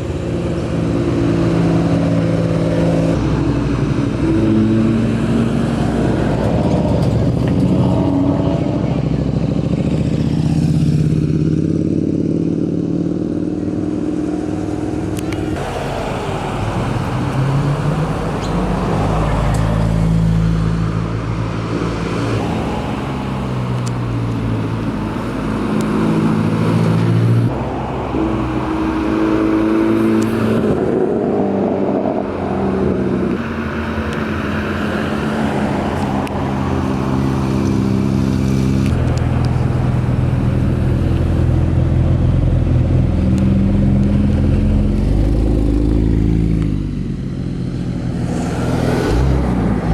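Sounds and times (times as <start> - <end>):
cars driving slowly past: 0.0 - 49.9.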